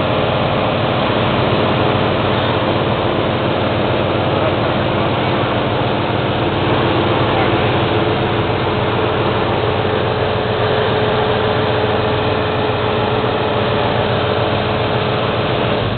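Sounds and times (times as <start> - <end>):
constant whine: 0.0 - 15.9
engine idling: 0.0 - 15.9
whir of belts and pulleys: 0.0 - 15.9.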